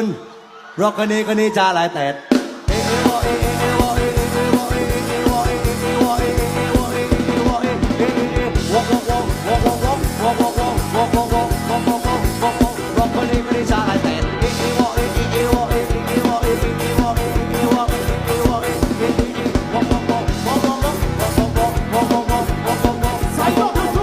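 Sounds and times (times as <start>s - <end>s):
rock music with drum beat: 2.3s - 24.0s.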